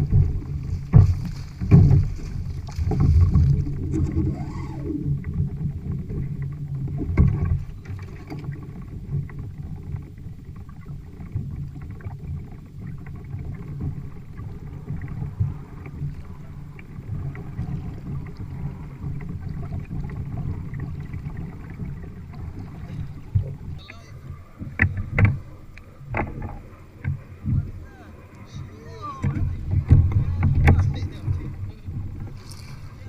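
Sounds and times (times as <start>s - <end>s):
water sloshing against kayak hull: 0.0s - 33.0s.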